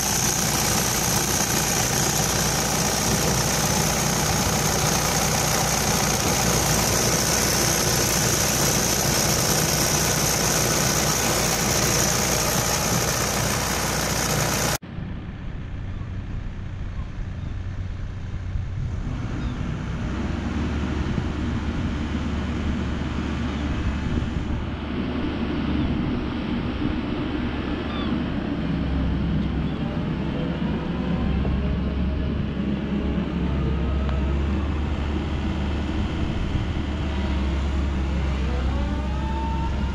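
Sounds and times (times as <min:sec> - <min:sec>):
excavator diesel engine running: 0:00.0 - 0:14.8, 0:19.0 - 0:39.9.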